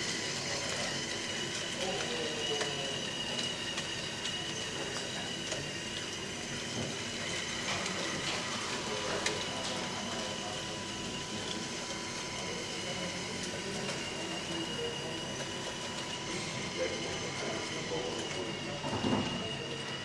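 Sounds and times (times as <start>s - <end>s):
model excavator hydraulic whine: 0.0s - 20.0s.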